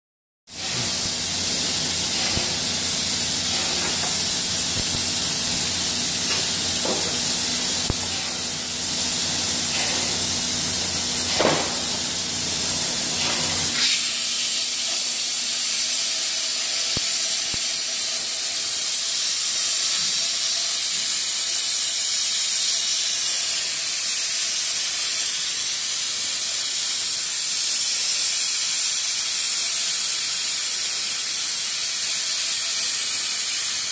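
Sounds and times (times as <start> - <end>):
hot air nozzle hissing: 0.5 - 33.9.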